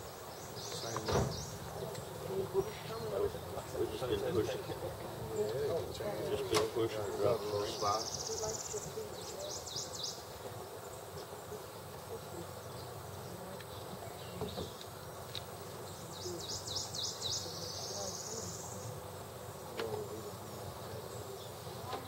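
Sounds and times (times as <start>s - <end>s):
insect buzzing: 0.0s - 22.0s.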